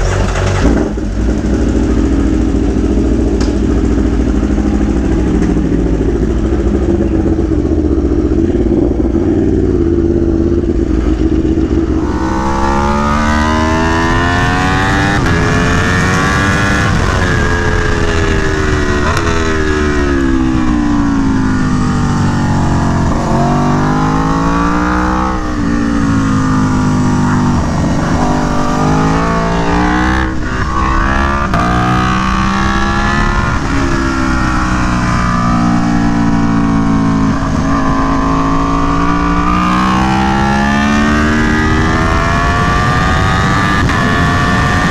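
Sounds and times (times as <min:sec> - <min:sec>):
motorcycle engine revving: 0:00.0 - 0:44.9
wind rumble: 0:00.0 - 0:44.9.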